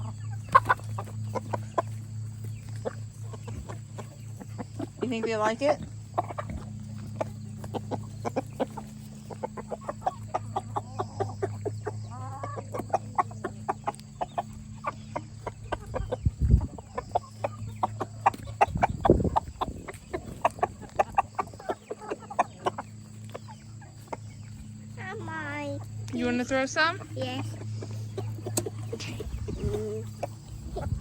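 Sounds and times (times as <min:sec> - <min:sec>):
chickens clucking: 0:00.0 - 0:31.0
steady low hum: 0:00.0 - 0:31.0.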